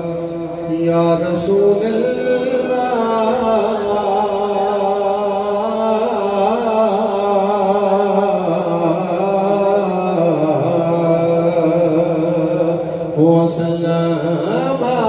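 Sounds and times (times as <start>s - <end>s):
man chanting devotional poem: 0.0s - 15.0s.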